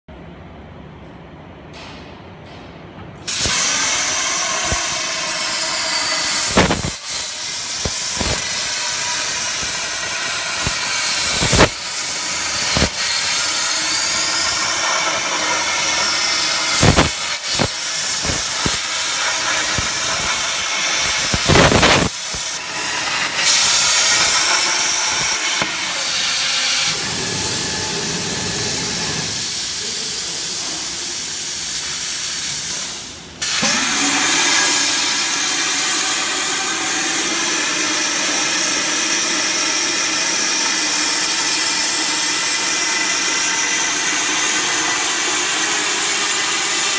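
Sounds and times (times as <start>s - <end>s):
plasma torch hissing: 3.2s - 46.9s.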